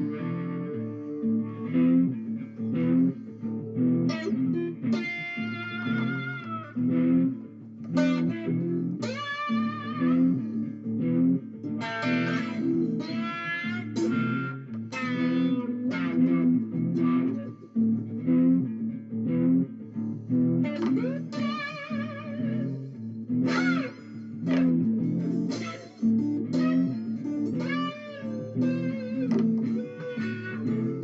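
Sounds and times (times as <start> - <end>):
electric guitar lead: 0.0 - 31.0
lower guitar accompaniment: 0.0 - 31.0.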